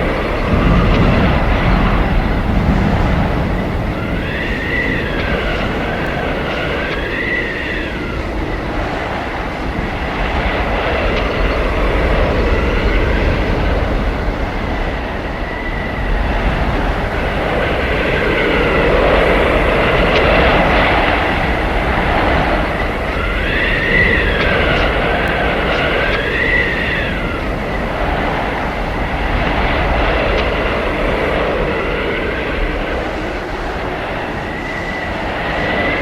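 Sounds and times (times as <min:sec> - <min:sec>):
howling blizzard wind: 0:00.0 - 0:36.0
whistling wind tones: 0:00.0 - 0:36.0.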